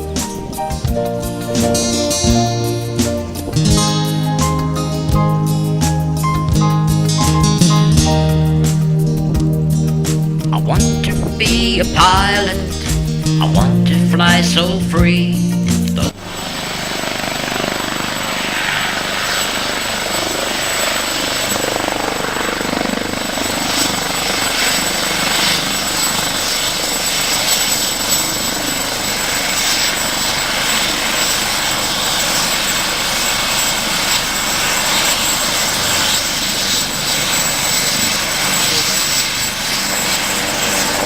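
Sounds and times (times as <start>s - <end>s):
aircraft engine roaring: 0.0s - 41.0s.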